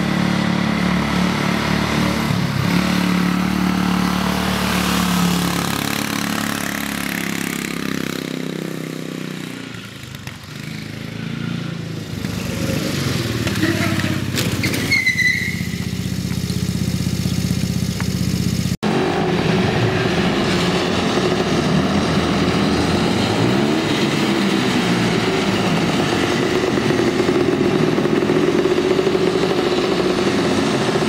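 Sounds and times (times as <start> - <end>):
small engine driving past: 0.0 - 31.0
small engine revving: 0.0 - 31.0.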